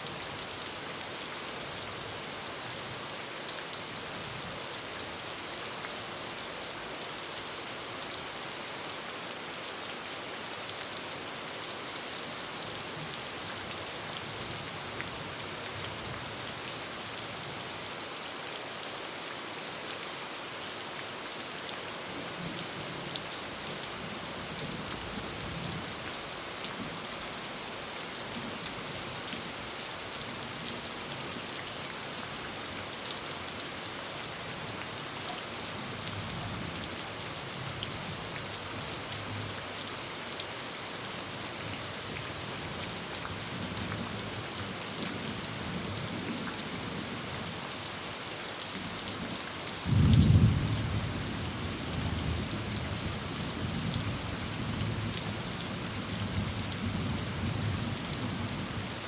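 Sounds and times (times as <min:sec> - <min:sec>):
heavy rain on a tin roof: 0:00.0 - 0:59.0.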